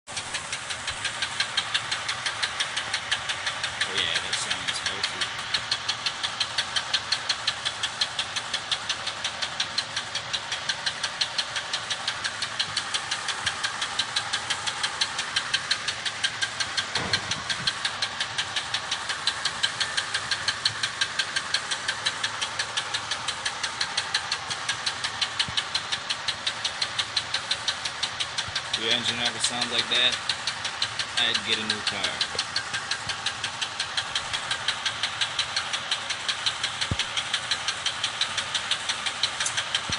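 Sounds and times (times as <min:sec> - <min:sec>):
engine running with knock: 0:00.1 - 0:39.9.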